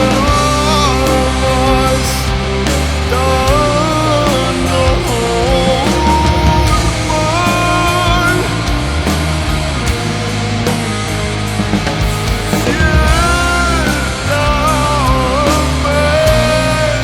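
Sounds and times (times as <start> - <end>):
instrumental rock band playing: 0.0 - 17.0.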